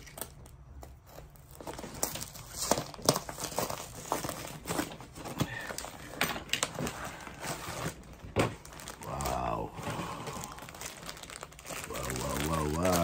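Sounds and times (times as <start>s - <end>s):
plastic package crinkling: 0.0s - 13.0s.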